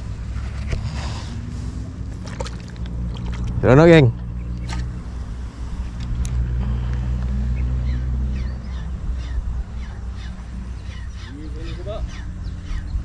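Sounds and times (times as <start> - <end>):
motor engine humming: 0.0 - 10.9.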